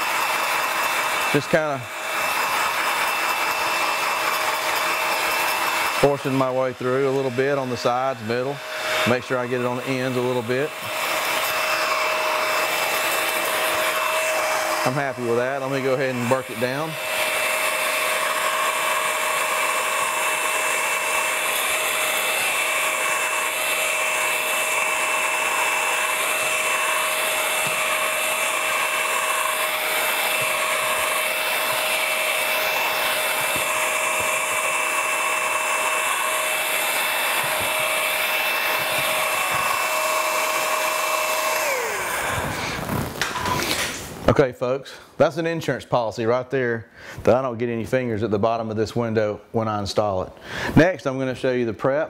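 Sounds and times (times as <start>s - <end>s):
heat gun fan with whine: 0.0s - 44.3s.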